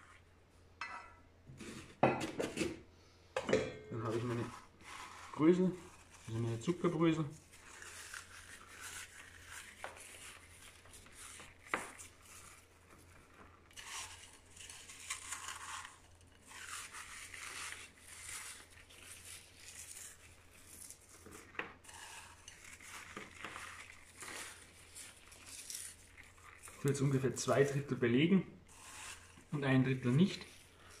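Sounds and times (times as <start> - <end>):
breadcrumbs rustling and crunching: 4.0 - 31.0.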